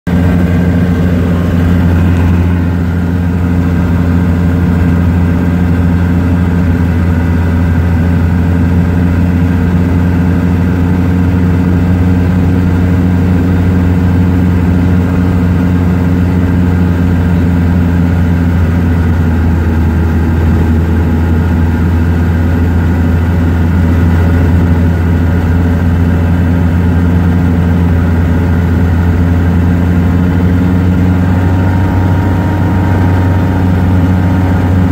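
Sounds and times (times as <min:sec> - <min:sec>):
snowcat engine low drone: 0:00.0 - 0:34.9.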